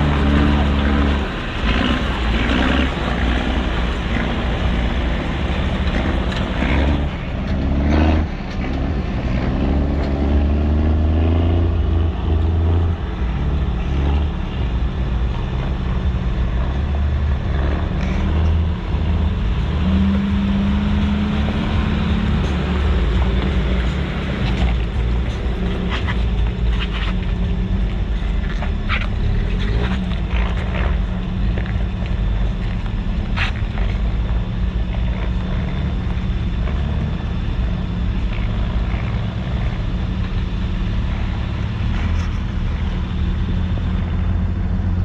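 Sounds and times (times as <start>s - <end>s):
truck engine revving off-road: 0.0s - 45.0s.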